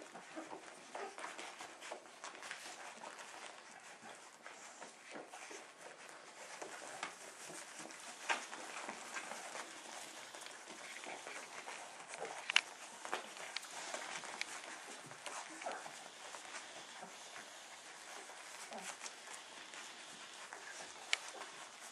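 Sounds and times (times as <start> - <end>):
puppies smacking and rustling: 0.0 - 21.9
puppy noises: 0.0 - 21.9.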